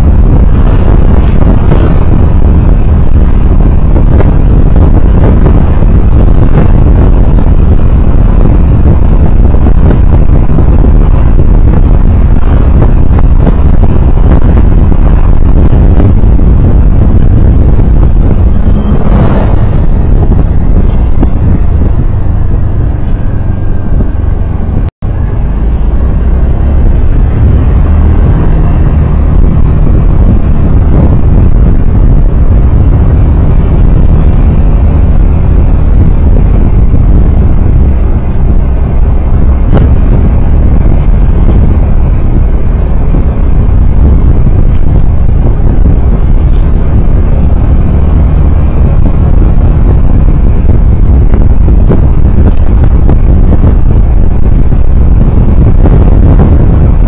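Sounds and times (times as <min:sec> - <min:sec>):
vehicle rumble under way: 0:00.0 - 0:57.0.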